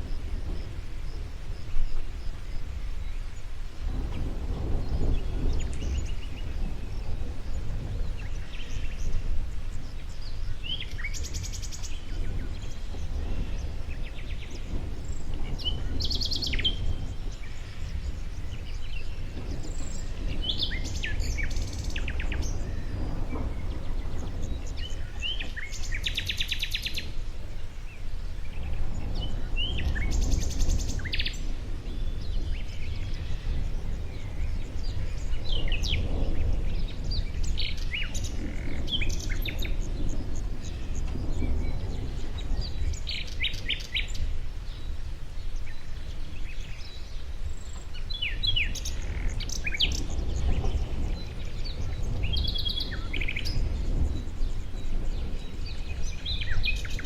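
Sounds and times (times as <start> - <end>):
songbird chirps and trill: 0.0 - 57.0
steady low rumble: 0.0 - 57.0.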